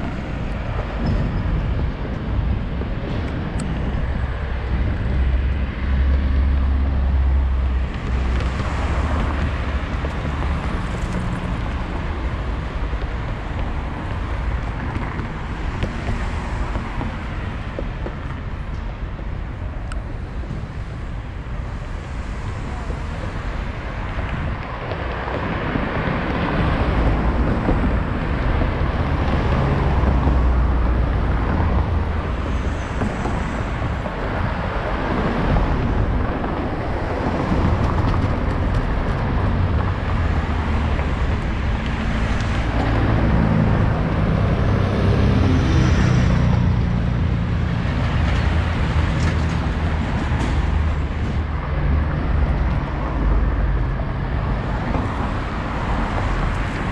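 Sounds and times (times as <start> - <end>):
road noise hiss: 0.0 - 56.9
vehicle engine rumble: 0.0 - 56.9.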